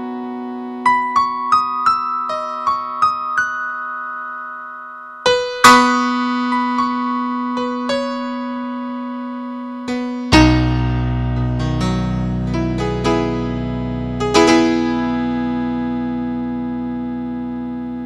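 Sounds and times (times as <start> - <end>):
instrumental keyboard music: 0.0 - 18.0.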